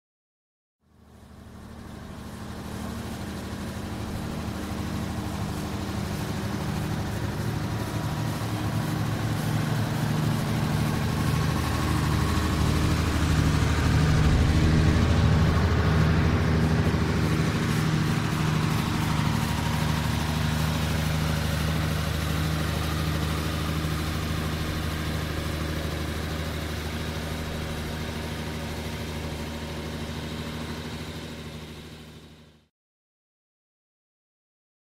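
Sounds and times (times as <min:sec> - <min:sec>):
truck engine reversing: 0:01.0 - 0:32.7.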